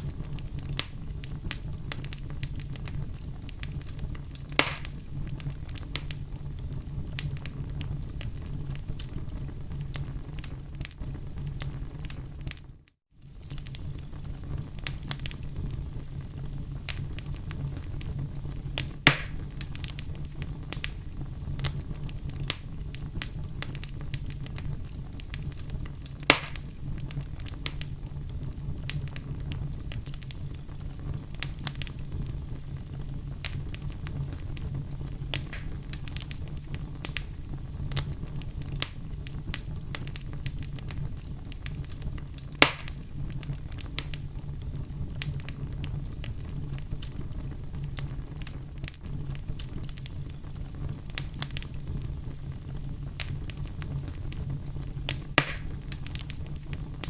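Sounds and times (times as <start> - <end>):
fire crackling in a fireplace: 0.0 - 57.0
sharp fire pops: 0.0 - 57.0.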